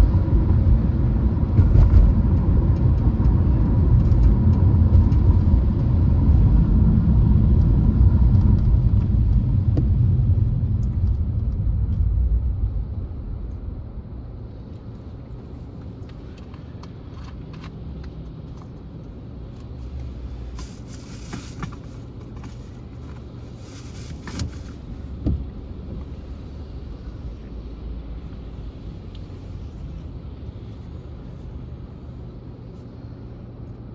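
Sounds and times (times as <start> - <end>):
deep rumble: 0.0 - 16.4, 19.2 - 33.2.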